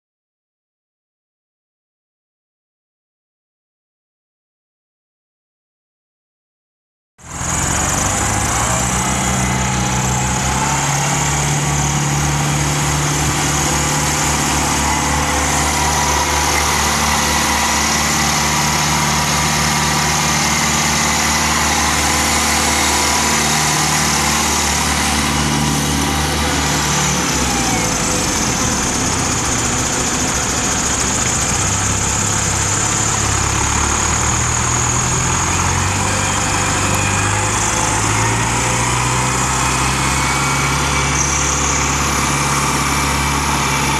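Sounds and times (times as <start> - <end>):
tractor diesel engine idling: 7.2 - 43.9.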